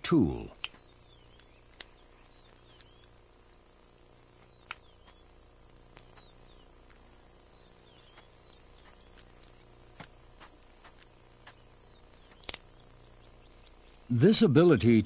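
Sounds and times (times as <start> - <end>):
high-pitched insect chorus: 0.1 - 15.0.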